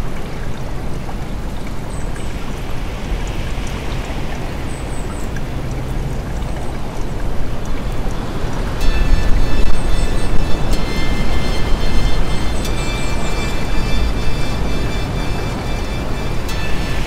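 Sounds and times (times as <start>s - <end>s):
flowing water: 0.0s - 17.0s.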